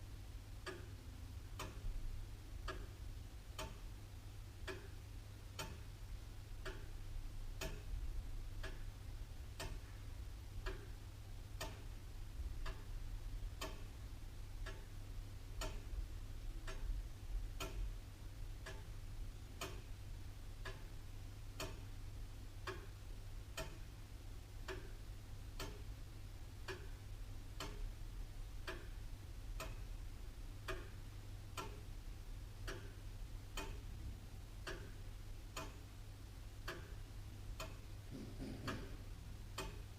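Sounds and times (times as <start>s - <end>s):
clock ticking: 0.6s - 2.0s, 2.6s - 4.0s, 4.6s - 39.9s.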